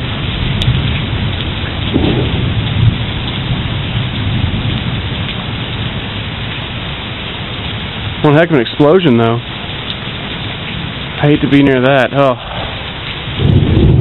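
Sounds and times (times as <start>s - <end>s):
low rumble of thunder: 0.0s - 8.2s, 10.1s - 14.0s
heavy rain pouring: 0.0s - 14.0s.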